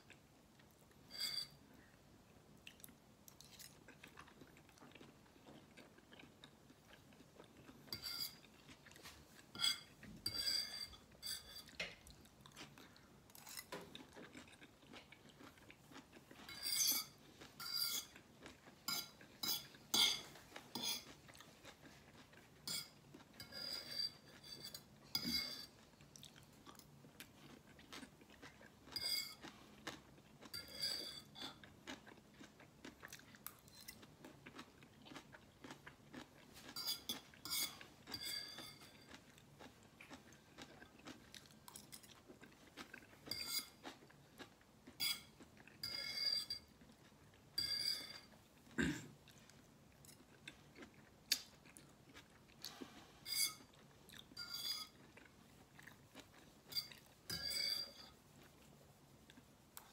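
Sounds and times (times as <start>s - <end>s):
person chewing noodles: 0.0s - 59.9s.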